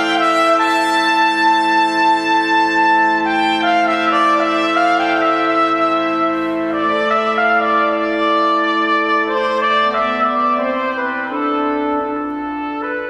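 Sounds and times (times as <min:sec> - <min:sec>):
organ chords: 0:00.0 - 0:13.0
trumpet playing held notes: 0:00.0 - 0:13.0.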